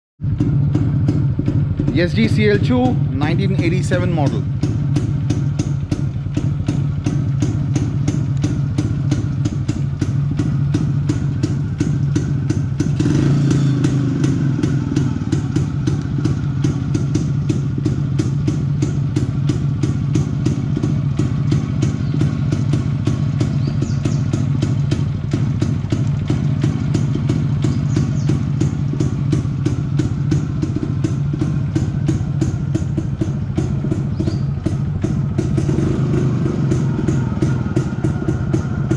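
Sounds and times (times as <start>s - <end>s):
two-stroke engine idling: 0.2s - 38.9s.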